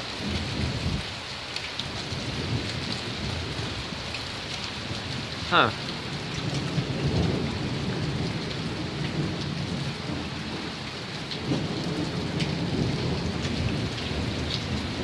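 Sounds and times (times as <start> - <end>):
low thunder rumbling: 0.0 - 1.0, 2.0 - 3.8, 5.8 - 15.0
heavy rain pouring: 0.0 - 15.0.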